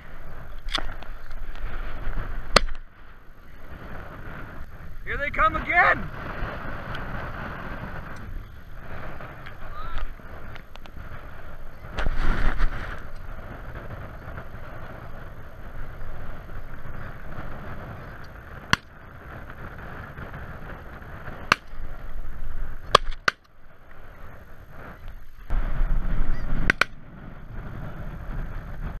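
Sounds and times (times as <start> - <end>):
sharp cracks: 0.4 - 3.1, 3.7 - 29.0.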